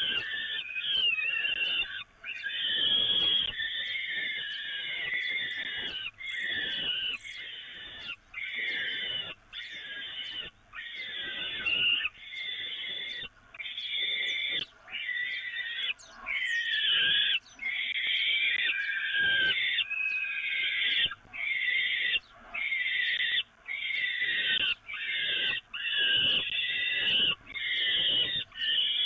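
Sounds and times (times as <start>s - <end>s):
falcon chicks begging calls: 0.0s - 29.0s.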